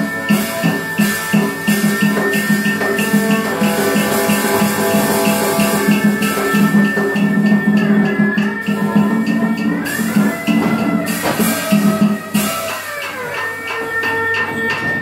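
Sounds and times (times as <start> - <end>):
long held high note: 0.0 - 13.8
percussion beat: 0.0 - 15.0.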